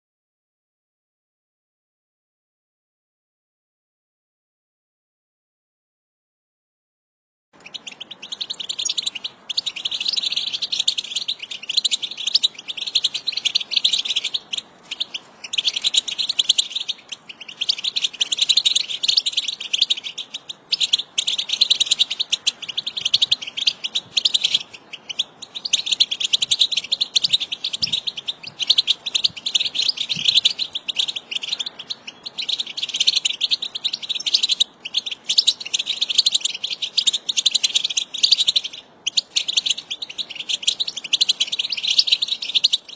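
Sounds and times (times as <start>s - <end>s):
finches twittering: 7.6s - 42.9s.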